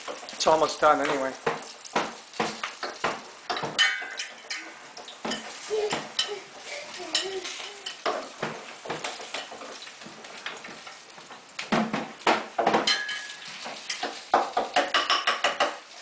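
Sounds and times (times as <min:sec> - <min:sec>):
sausages sizzling in a frying pan: 0:00.0 - 0:16.0
metal utensil scraping a pan: 0:01.1 - 0:11.4, 0:12.8 - 0:16.0.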